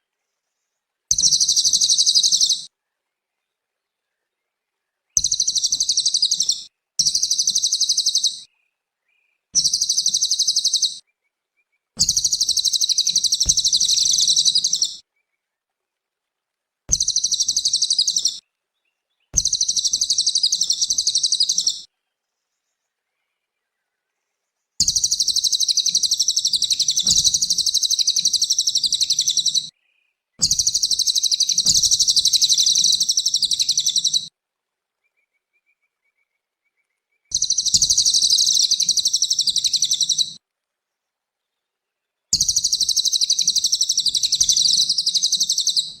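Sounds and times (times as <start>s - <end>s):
songbird chattering song: 0.6s - 15.6s, 16.9s - 34.3s, 35.0s - 40.4s, 41.4s - 46.0s.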